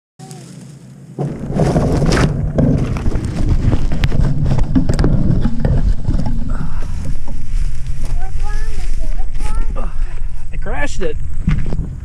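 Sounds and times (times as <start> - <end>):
grass rustling: 0.2 - 12.0
wind noise: 1.2 - 12.0.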